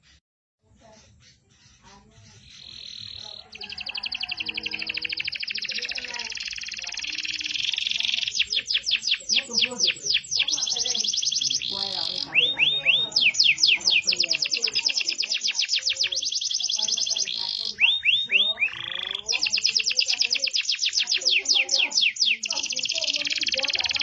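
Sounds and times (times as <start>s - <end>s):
canary singing: 0.6s - 24.0s.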